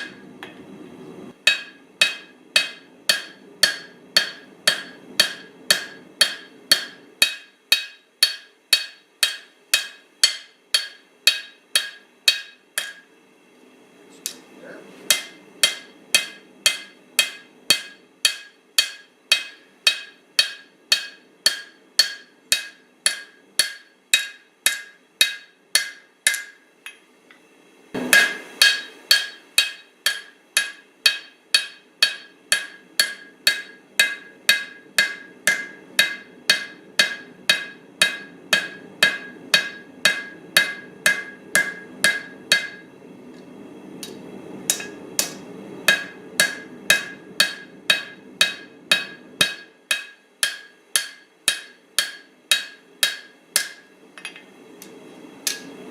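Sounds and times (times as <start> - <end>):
hammer striking steel on anvil: 0.0 - 0.6, 1.3 - 13.2, 15.1 - 26.6, 28.0 - 43.0, 44.0 - 54.5, 55.5 - 55.7.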